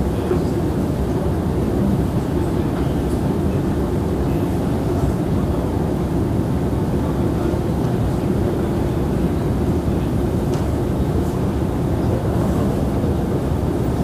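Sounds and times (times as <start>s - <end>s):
metro train rumbling in tunnel: 0.0s - 14.0s.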